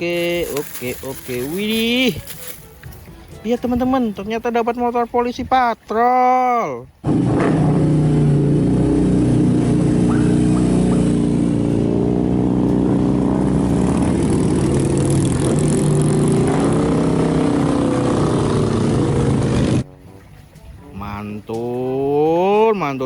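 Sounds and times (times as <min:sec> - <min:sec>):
vehicle engine rumbling: 0:00.0 - 0:05.6, 0:07.0 - 0:23.0.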